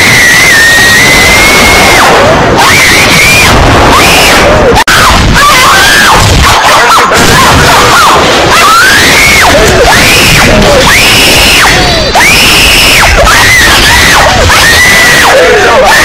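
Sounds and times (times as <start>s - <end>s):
distorted screaming voice: 0.0s - 16.0s.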